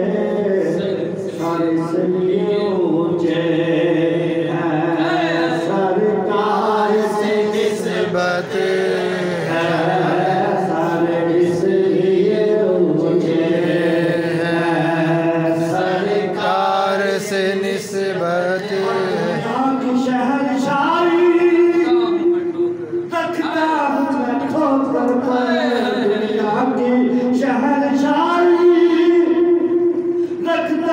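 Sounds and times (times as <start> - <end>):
man chanting into a microphone: 0.0 - 30.9.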